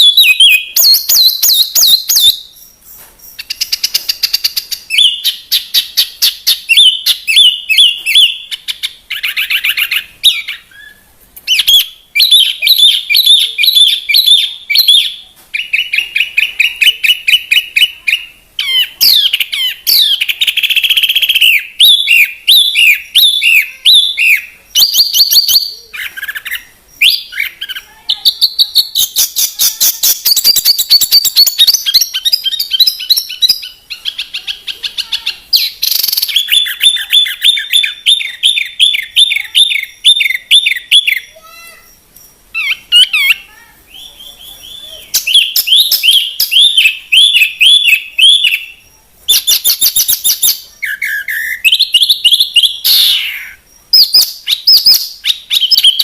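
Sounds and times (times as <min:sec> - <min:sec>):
songbird singing trills: 0:00.0 - 0:56.0.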